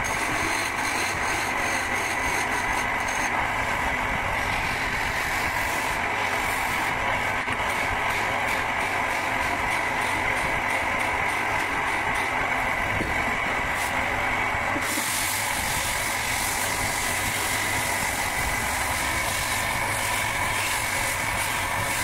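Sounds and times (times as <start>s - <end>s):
wood lathe drone: 0.0s - 22.0s.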